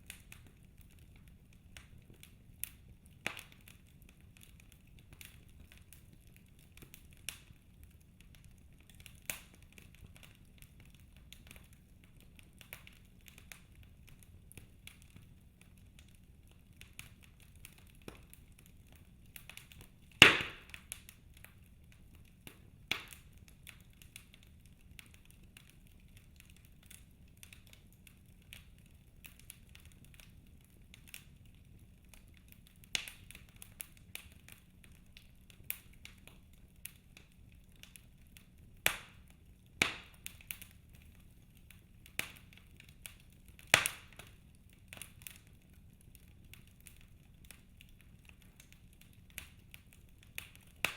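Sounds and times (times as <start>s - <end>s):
logs crackling in a fireplace: 0.0s - 50.9s.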